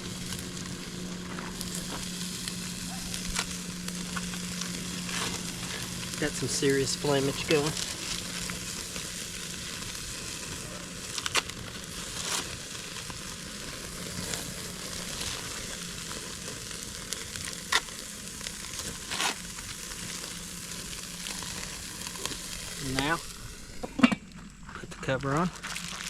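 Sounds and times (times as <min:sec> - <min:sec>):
burger patties sizzling: 0:00.0 - 0:26.0
flame flaring up: 0:00.0 - 0:26.0.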